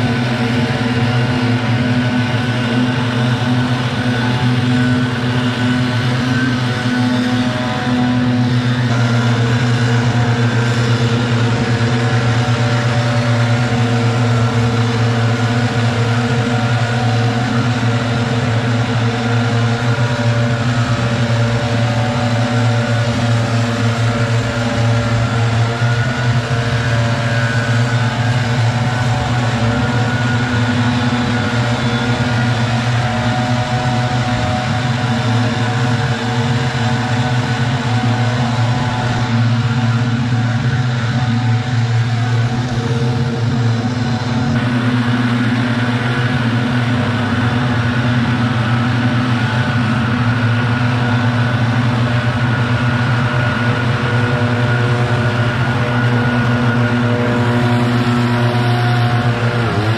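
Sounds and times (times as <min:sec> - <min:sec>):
leaf blowers droning: 0:00.0 - 0:59.9.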